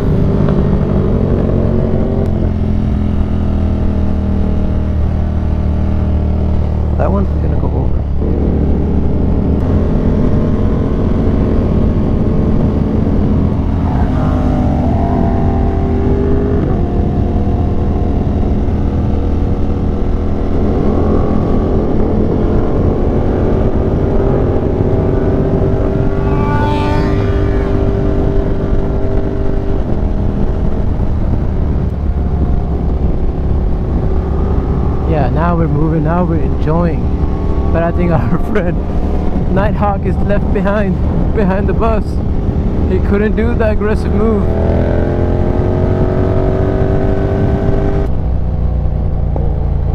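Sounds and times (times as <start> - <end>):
motorcycle engine revving: 0.0 - 49.9
wind rush: 0.0 - 49.9.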